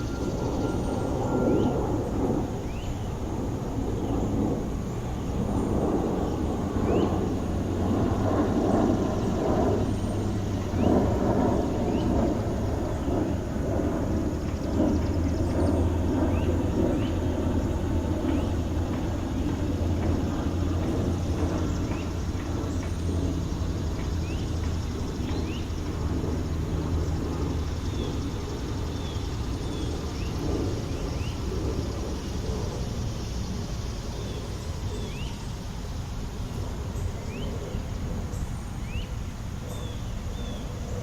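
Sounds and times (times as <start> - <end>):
engine hum: 0.0 - 38.2
low rumble of traffic: 0.0 - 41.0.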